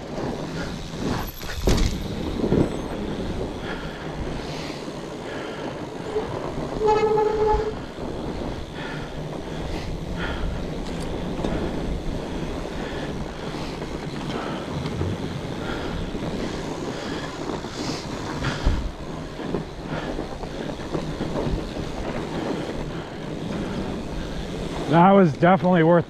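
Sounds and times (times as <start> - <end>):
bike jolt: 0.0 - 24.9
bike rattling: 0.0 - 26.0
bike tyres rolling on trail: 0.0 - 26.0.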